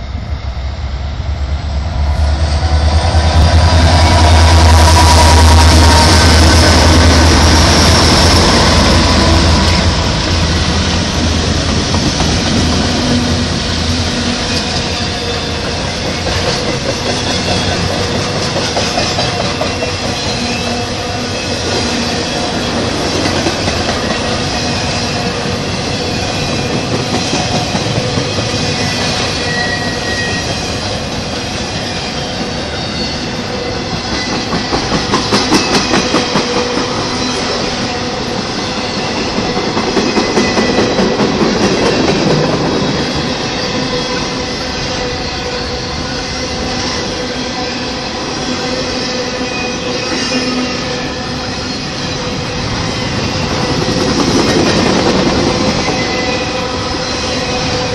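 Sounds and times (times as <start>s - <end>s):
diesel locomotive engine hum: 0.0s - 57.9s
train wheels rumbling on rail: 0.0s - 57.9s.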